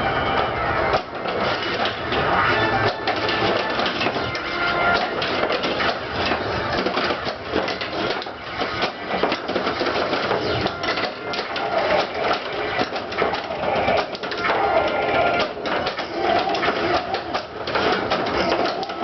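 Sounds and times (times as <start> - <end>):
pinball machine clatter: 0.0 - 19.0.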